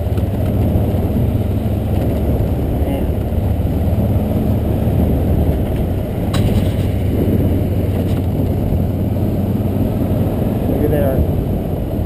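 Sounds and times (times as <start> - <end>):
bike rumbling over dirt track: 0.0 - 12.0
motorcycle engine running: 0.0 - 12.0.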